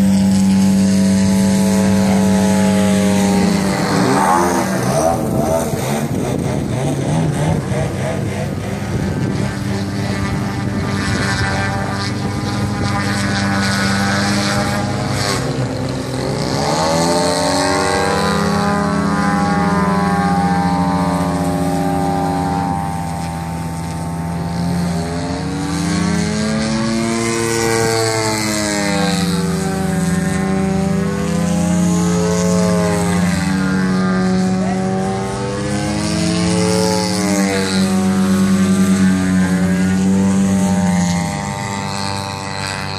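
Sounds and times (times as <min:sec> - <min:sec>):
model airplane engine and propeller: 0:00.0 - 0:42.9.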